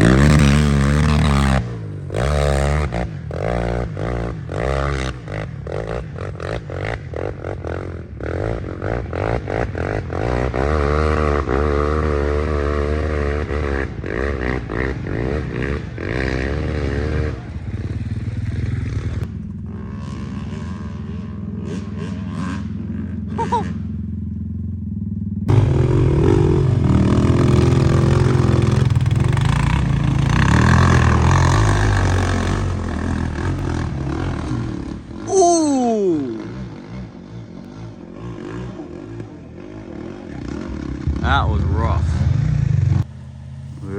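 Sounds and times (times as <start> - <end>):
off-road engines revving: 0.0 - 24.5, 25.5 - 43.9.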